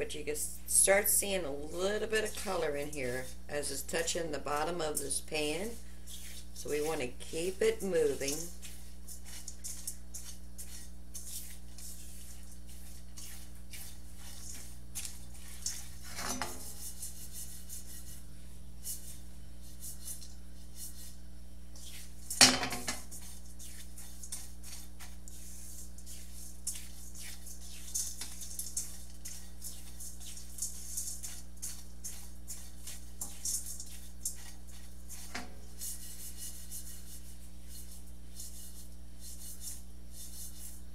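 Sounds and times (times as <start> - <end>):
steady low hum: 0.0 - 40.9
spatula scraping breadcrumbs in skillet: 1.0 - 40.9.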